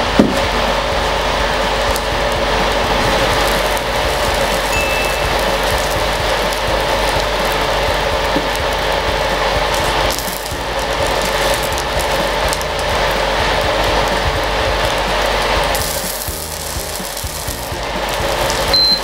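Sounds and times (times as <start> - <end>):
chicken sizzling in frying pan: 0.0 - 19.0.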